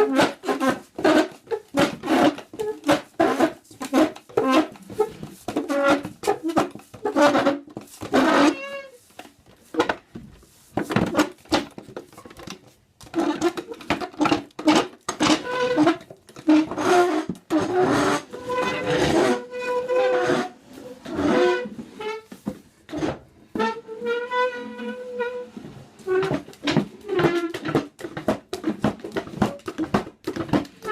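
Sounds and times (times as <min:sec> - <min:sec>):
chair legs scraping floor: 0:00.0 - 0:30.9.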